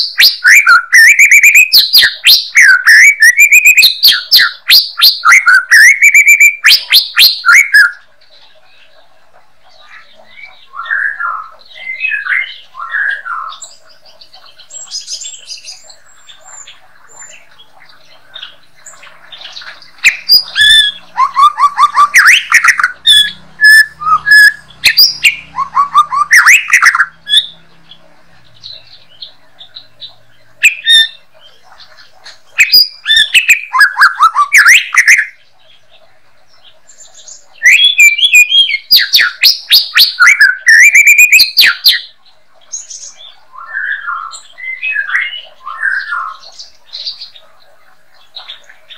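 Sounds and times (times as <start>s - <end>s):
bird singing whistles and chatter: 0.0s - 8.0s, 10.2s - 27.7s, 28.5s - 35.4s, 36.9s - 42.2s, 42.8s - 47.4s.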